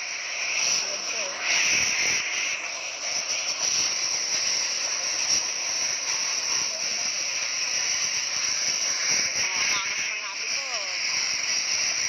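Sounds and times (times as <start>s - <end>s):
fire hose spraying water: 0.0s - 12.0s.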